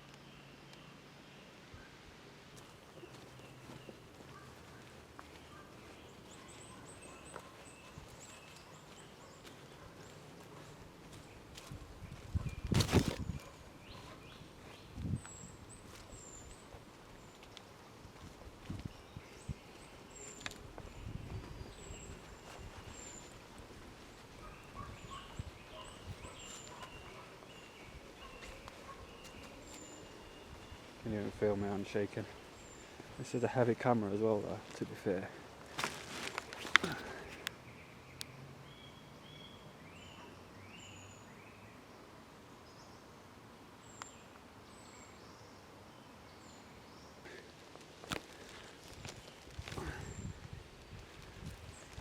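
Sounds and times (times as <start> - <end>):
faint birdsong chirps: 0.0 - 52.0.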